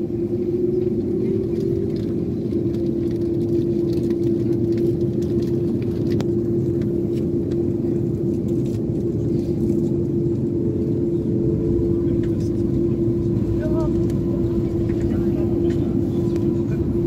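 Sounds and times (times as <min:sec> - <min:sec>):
constant hum: 0:00.0 - 0:17.0
jet engine rumble in cabin: 0:00.0 - 0:17.0.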